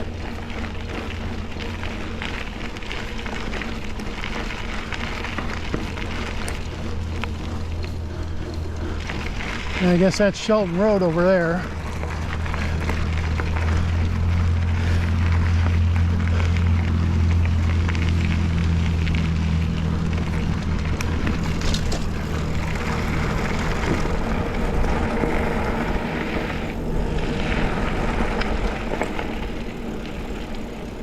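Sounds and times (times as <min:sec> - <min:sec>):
bike tyres crackling on dirt: 0:00.0 - 0:31.0
low engine hum: 0:00.0 - 0:31.0
wind: 0:00.0 - 0:31.0.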